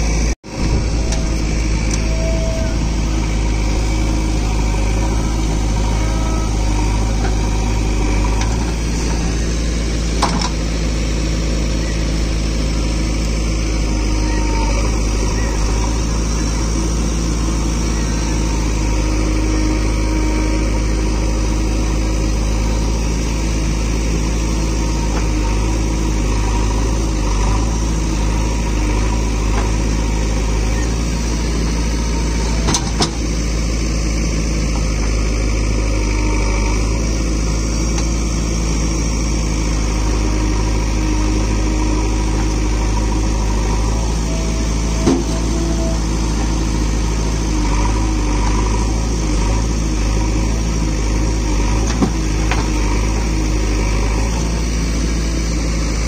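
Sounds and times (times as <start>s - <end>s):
diesel engine running: 0.0s - 56.0s
backhoe digging soil: 0.5s - 56.0s.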